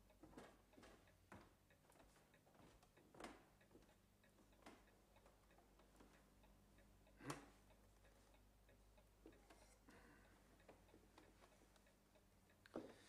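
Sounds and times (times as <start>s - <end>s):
clock ticking faintly: 0.0s - 13.0s.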